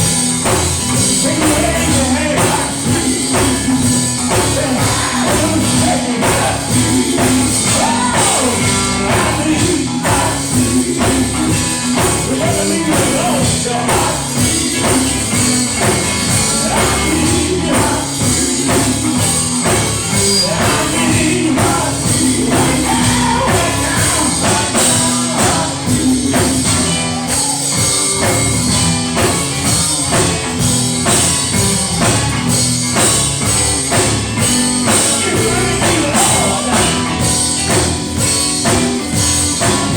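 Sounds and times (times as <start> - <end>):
band with drum beat: 0.0 - 39.9
voices singing gospel: 0.0 - 39.9.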